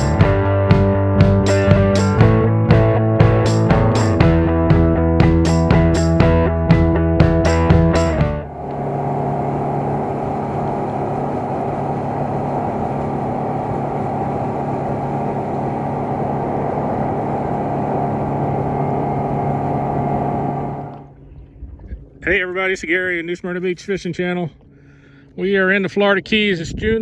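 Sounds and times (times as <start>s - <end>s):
motorboat engine droning: 0.0s - 25.8s.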